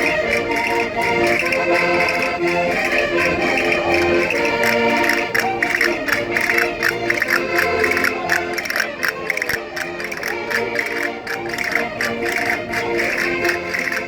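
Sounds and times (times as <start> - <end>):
concertinas playing lively tune: 0.0 - 14.0
sharp rhythmic clicks: 0.0 - 14.0.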